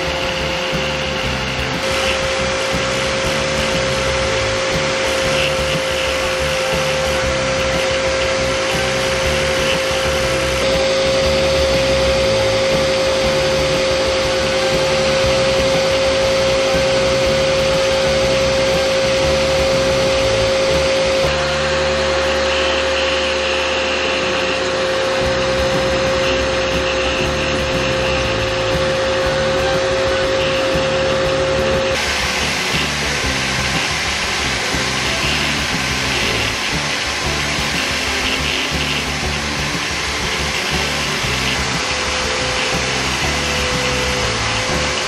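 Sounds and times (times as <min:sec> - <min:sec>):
polishing disc whining: 0:00.0 - 0:45.0.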